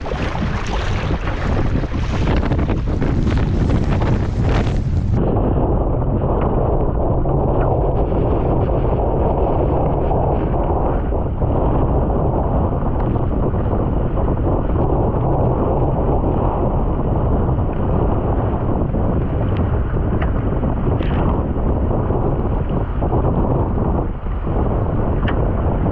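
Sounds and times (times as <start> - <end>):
strong wind buffeting microphone: 0.0 - 25.9.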